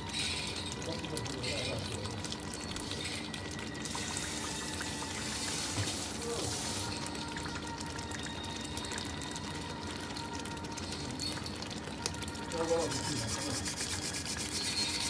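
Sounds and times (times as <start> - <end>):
stew bubbling and popping: 0.0 - 15.0.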